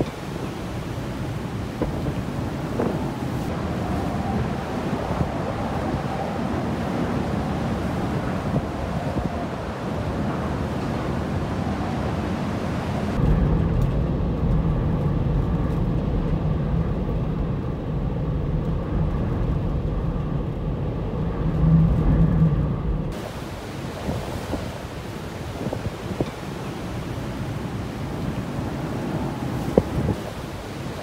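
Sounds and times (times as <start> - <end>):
strong wind gusting: 0.0 - 31.0.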